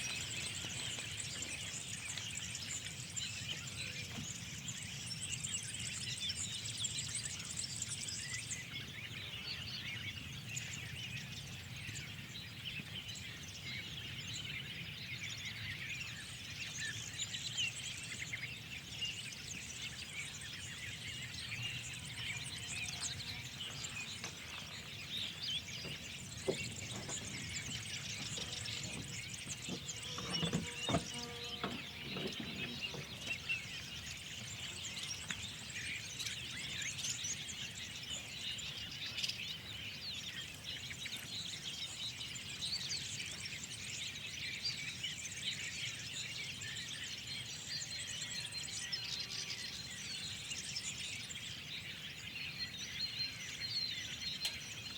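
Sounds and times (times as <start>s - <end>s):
small birds chirping and twittering: 0.0s - 54.9s.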